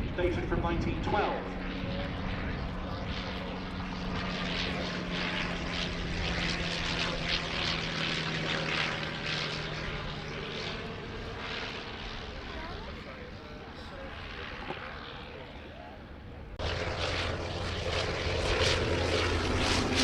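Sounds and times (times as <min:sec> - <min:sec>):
low engine tone: 0:00.0 - 0:20.0
propeller and air rushing: 0:00.0 - 0:20.0.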